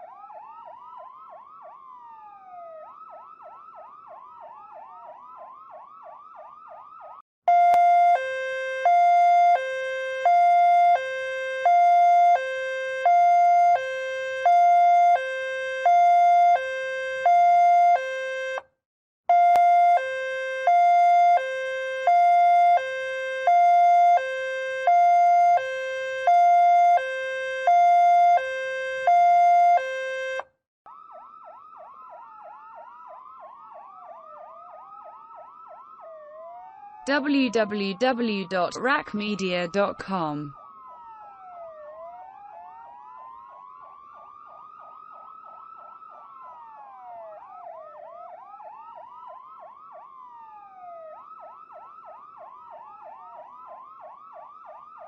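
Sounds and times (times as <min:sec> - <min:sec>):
yelping siren: 0:00.0 - 0:18.6, 0:19.3 - 0:55.0
ambulance siren hi-lo: 0:00.0 - 0:18.7, 0:19.3 - 0:55.0.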